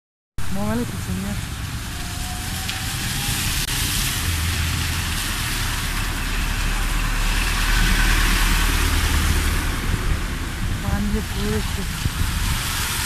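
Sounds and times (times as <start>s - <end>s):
rain: 0.4s - 13.0s
traffic noise: 0.4s - 13.0s
tyres hissing on wet road: 0.4s - 13.0s
minibus engine driving past: 1.0s - 13.0s.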